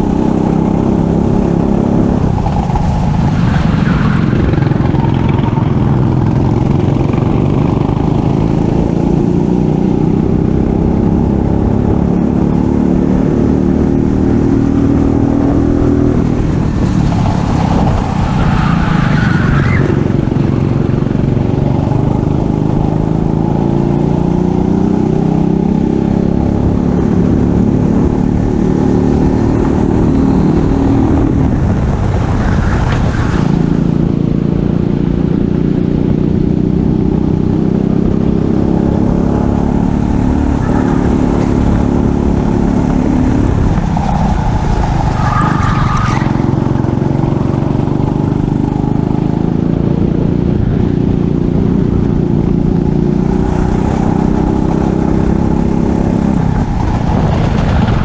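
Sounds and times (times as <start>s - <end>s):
racing kart engine at full throttle: 0.0s - 58.0s.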